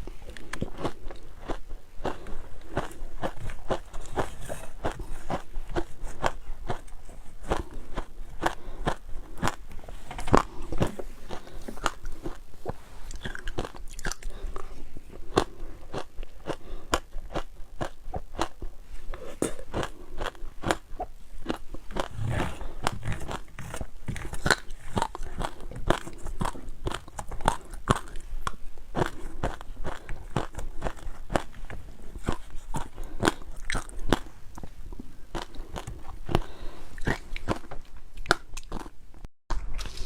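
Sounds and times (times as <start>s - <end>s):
ice crunching being chewed: 0.0s - 39.0s.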